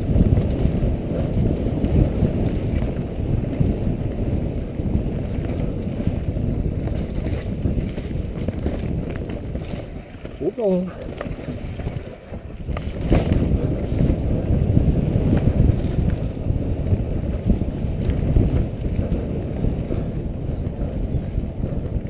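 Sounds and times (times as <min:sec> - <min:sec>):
mountain bike rumbling on dirt trail: 0:00.0 - 0:22.0
wind buffeting microphone: 0:00.0 - 0:22.0.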